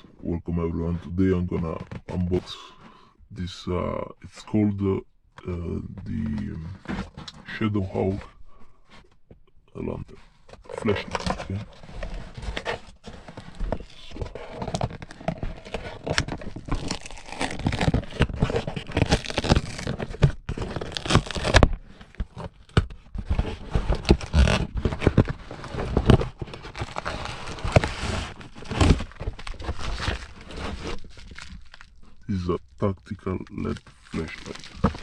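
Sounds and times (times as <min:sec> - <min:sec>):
plastic and cardboard crinkling: 0:05.6 - 0:09.2, 0:09.8 - 0:35.0.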